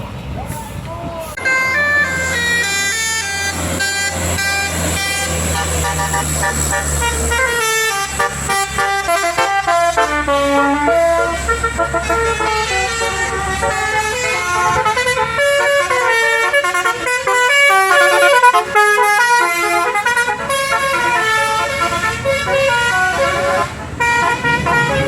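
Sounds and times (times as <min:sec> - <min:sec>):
bus horn playing a fast tune: 0:01.4 - 0:25.0.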